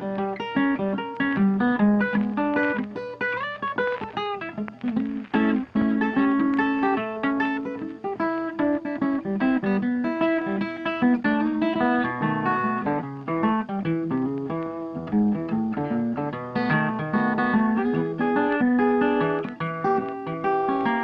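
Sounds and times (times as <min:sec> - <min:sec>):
guitar picked in bright notes: 0:00.0 - 0:21.0.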